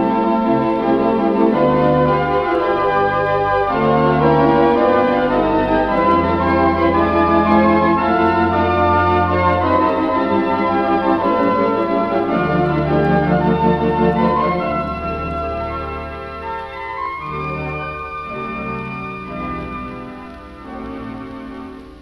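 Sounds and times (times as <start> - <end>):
theatre organ playing chords: 0.0 - 22.0.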